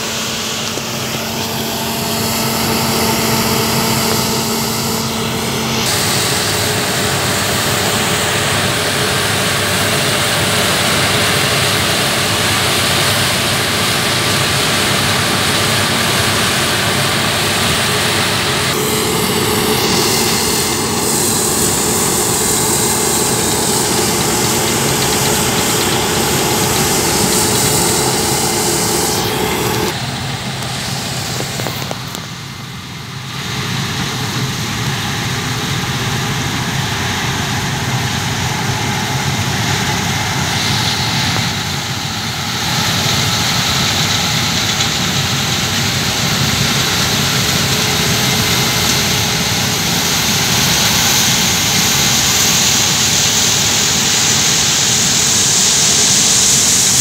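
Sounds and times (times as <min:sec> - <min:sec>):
combine harvester droning: 0:00.0 - 0:57.0.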